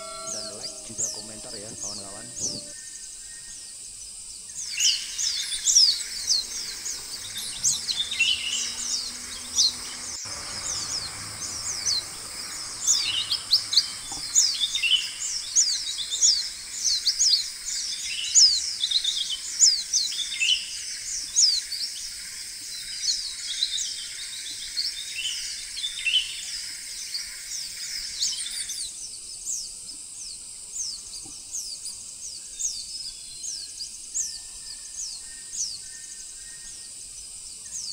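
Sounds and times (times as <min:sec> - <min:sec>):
birds calling high tsee notes: 0:00.0 - 0:37.9.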